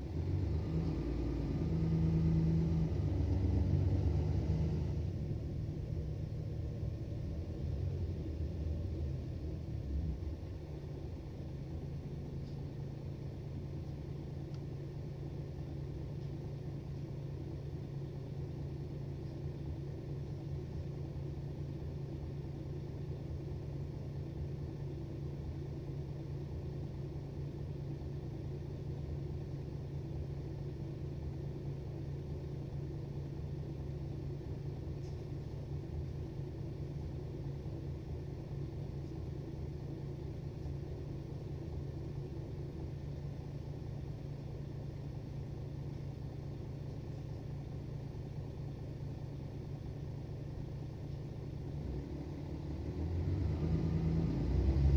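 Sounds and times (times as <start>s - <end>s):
bus diesel engine drone: 0.0s - 54.9s.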